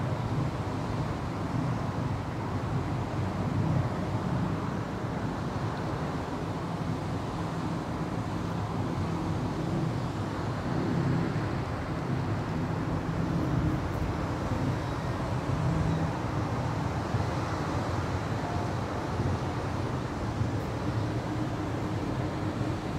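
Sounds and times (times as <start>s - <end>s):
distant city traffic rumble: 0.0s - 22.9s.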